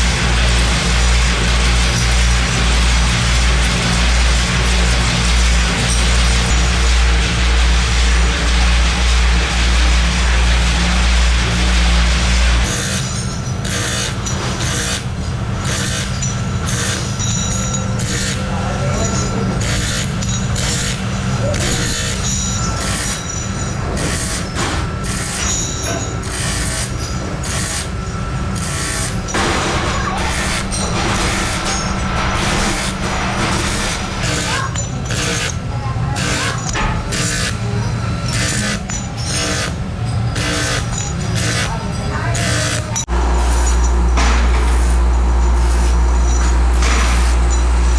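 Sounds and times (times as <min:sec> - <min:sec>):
rhythmic hissing scraping bursts: 0:00.0 - 0:43.8
machine humming: 0:00.0 - 0:47.9.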